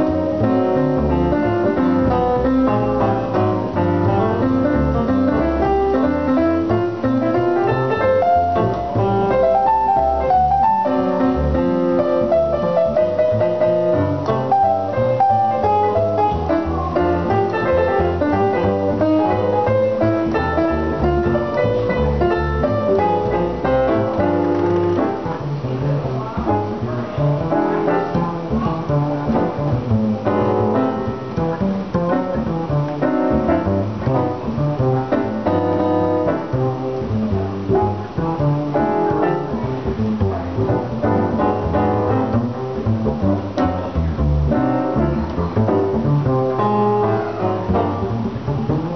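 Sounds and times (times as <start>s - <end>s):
piano melody and chords: 0.0s - 48.9s
plucked double bass: 0.0s - 48.9s.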